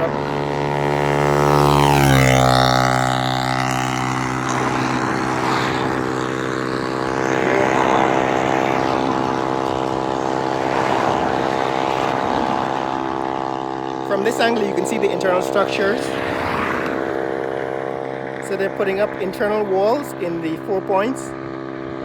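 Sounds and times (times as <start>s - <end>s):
motor humming: 0.0s - 19.3s.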